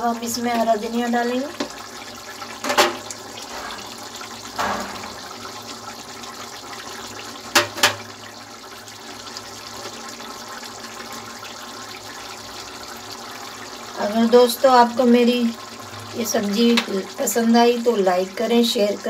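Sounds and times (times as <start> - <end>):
curry bubbling in a pan: 0.0 - 19.0.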